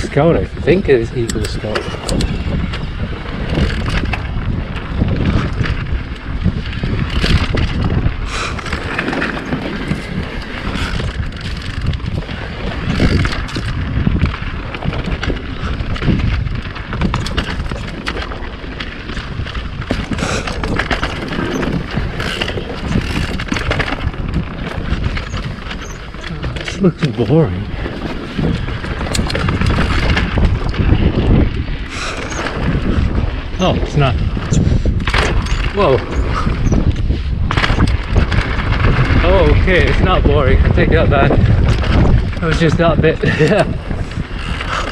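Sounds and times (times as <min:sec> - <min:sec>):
tyres rolling over dirt: 0:00.0 - 0:44.9
wind on microphone: 0:00.0 - 0:44.9
bike knocks and rattles: 0:00.1 - 0:44.9.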